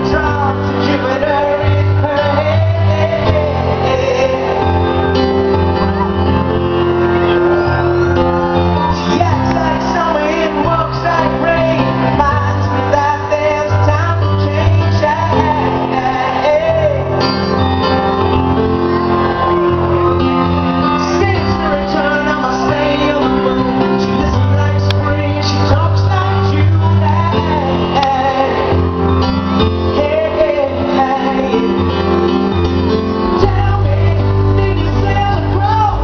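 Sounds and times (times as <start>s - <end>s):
person singing lead vocal: 0.0s - 36.0s
rock band playing: 0.0s - 36.0s.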